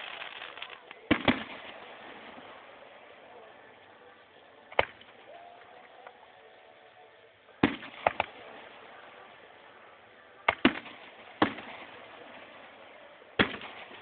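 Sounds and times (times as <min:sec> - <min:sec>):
fireworks bangs: 0:00.0 - 0:06.2, 0:07.5 - 0:14.0.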